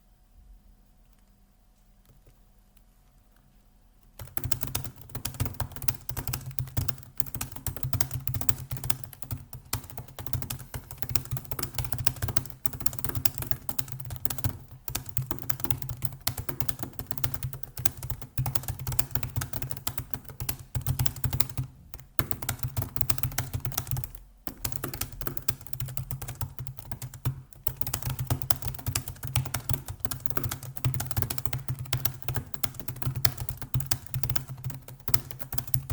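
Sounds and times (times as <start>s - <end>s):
fast keyboard typing: 4.2s - 35.9s.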